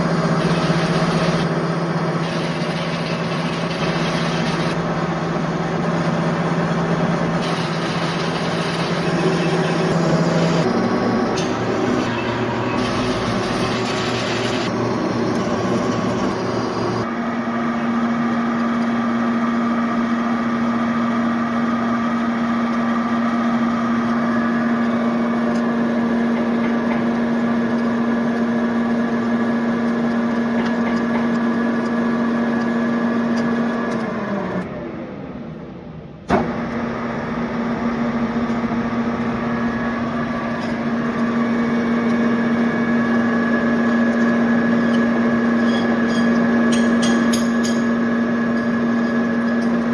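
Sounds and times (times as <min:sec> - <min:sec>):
lathe humming: 0:00.0 - 0:34.7, 0:36.8 - 0:49.9.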